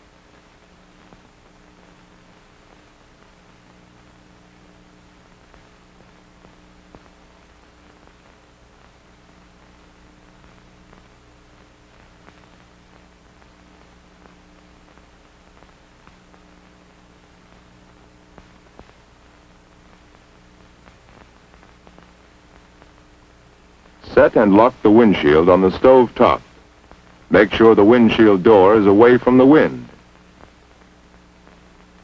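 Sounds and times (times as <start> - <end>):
faint clicks and crackle: 0.0 - 25.0, 25.8 - 27.4, 29.3 - 32.0
low steady hum and hiss: 0.0 - 32.0.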